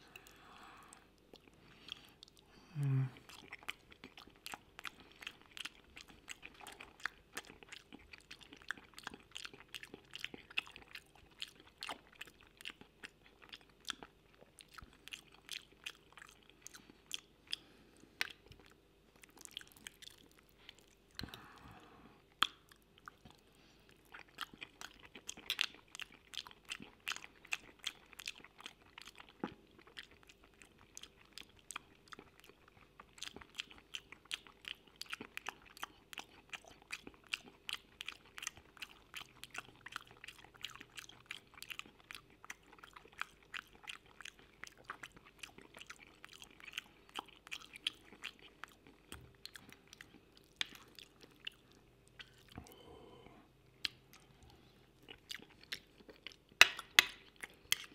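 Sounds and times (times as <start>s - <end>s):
chewing with mouth clicks: 0.0s - 57.9s.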